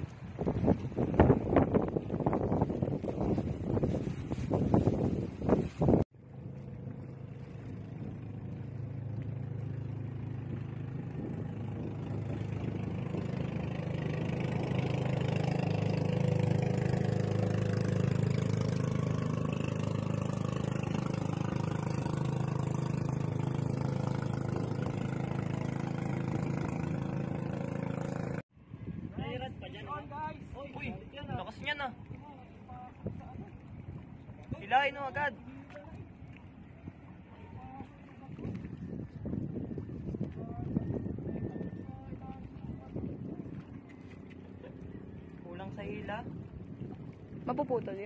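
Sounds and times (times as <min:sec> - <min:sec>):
motorboat engine running: 0:00.0 - 0:28.4, 0:30.1 - 0:48.0.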